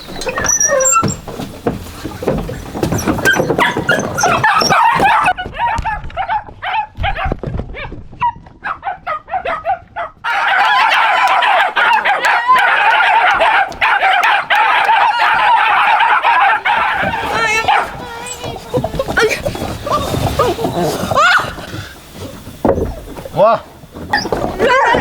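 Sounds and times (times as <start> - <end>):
dog barking and yipping: 0.0 - 7.3, 8.2 - 22.9, 24.1 - 25.0.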